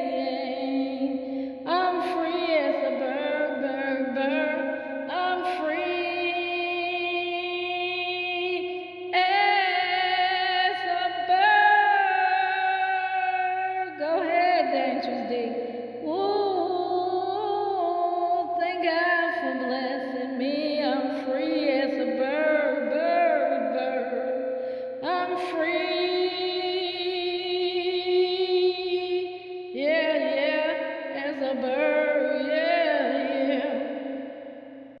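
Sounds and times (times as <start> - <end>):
wordless singing with vibrato: 0.0 - 35.0.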